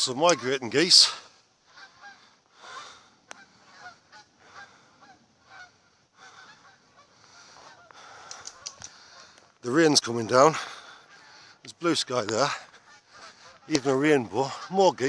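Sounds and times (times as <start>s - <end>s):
geese honking in flight: 0.0s - 15.0s.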